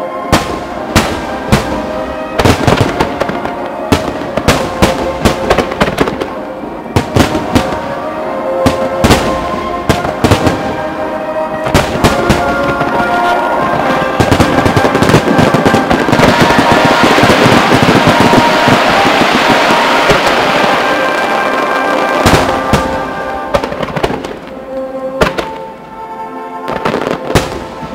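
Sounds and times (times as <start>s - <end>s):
music with long held notes: 0.0s - 27.9s.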